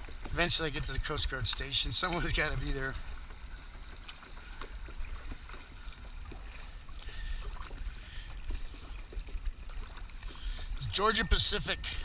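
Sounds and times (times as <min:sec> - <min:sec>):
kayak paddle strokes in water: 0:00.0 - 0:12.0
water dripping off paddle: 0:00.0 - 0:12.0.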